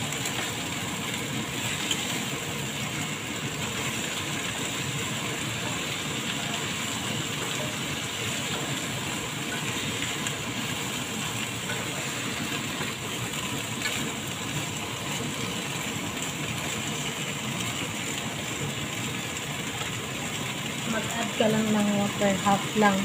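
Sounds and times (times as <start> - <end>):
chicken feet sizzling in a pan: 0.0 - 23.0.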